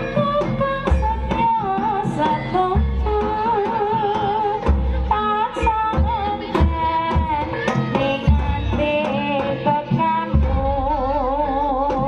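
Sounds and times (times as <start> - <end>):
deep drum beat: 0.0 - 12.0
hand drums and percussion: 0.0 - 12.0.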